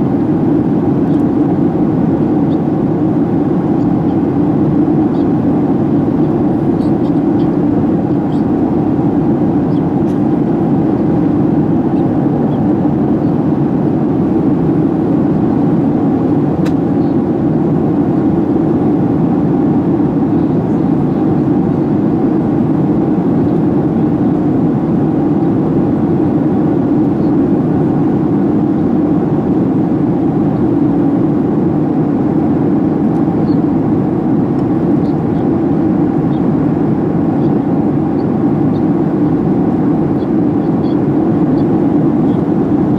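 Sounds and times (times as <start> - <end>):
airplane cabin airflow and engines: 0.0 - 42.9.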